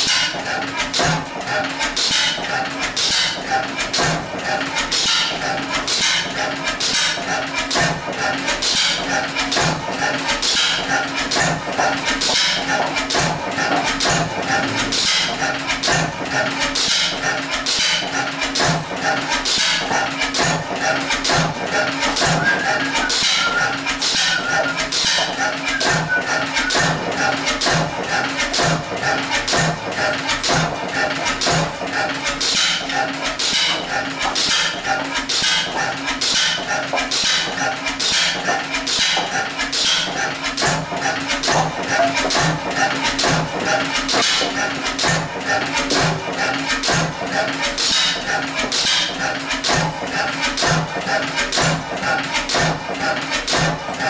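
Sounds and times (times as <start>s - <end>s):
mechanical clatter: 0.0s - 54.0s
stationary engine beating: 0.0s - 54.0s.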